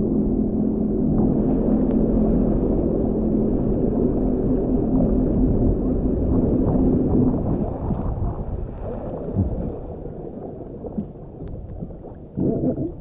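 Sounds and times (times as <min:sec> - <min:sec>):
personal watercraft engine humming: 0:00.0 - 0:13.0.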